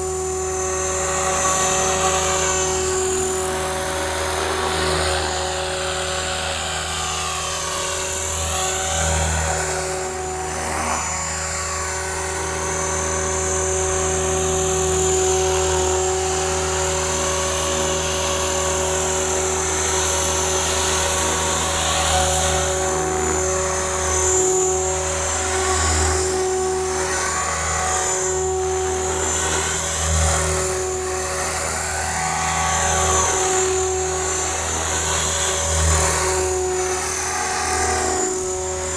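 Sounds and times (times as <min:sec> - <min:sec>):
model helicopter whine: 0:00.0 - 0:38.9.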